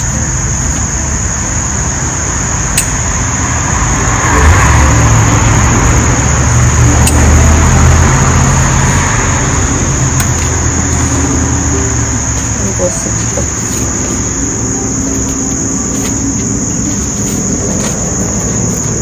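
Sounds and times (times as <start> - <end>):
steady high-pitched tone: 0.0 - 19.0
vehicle passing with tyre hiss: 0.4 - 19.0.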